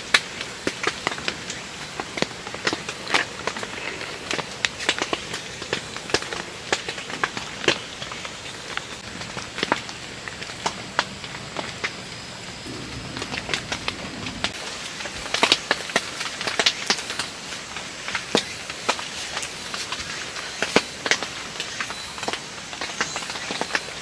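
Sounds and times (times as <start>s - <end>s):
raindrops tapping tent fabric: 0.0s - 24.0s
soft hiss of rain: 0.0s - 24.0s.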